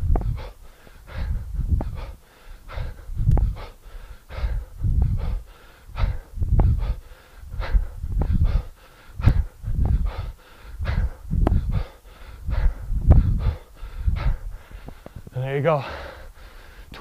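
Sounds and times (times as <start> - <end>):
kettlebell swing rumble: 0.0 - 14.7
man breathing hard: 0.0 - 17.0.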